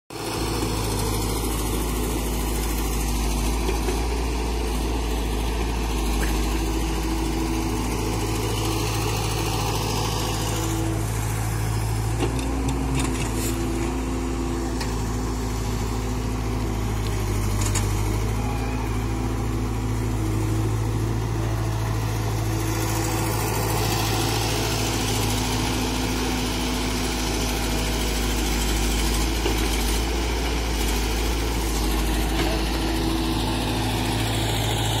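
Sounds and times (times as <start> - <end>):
excavator diesel engine running: 0.1 - 35.0.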